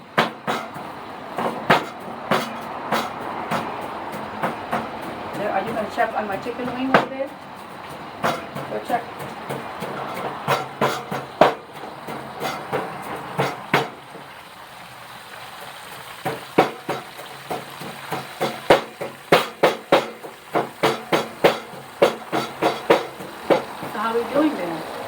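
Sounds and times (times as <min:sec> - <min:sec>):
pestle pounding in a mortar: 0:00.0 - 0:14.3, 0:16.2 - 0:24.0.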